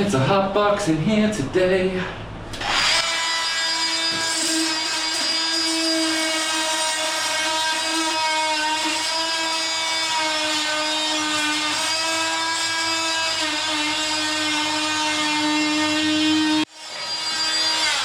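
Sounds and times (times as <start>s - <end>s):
power tool whine: 2.5s - 18.0s.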